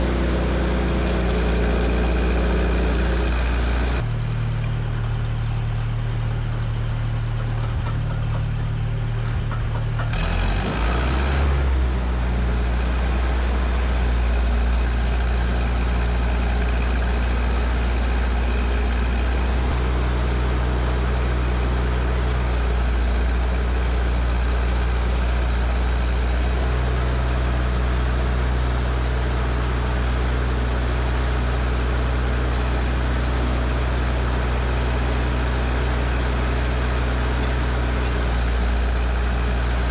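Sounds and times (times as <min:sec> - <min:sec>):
engine-driven welder running: 0:00.0 - 0:39.9.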